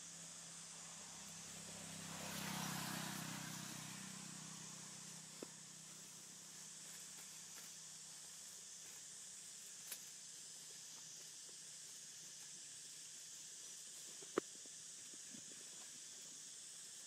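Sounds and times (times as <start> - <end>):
faint high-pitched hiss: 0.0 - 17.0.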